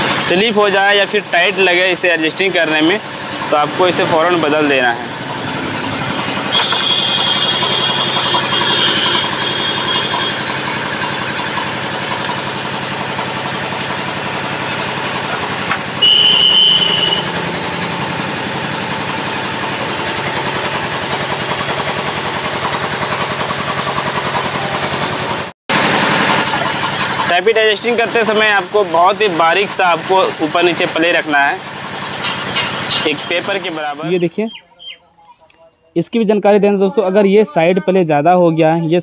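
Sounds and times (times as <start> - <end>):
engine running: 0.0 - 34.4.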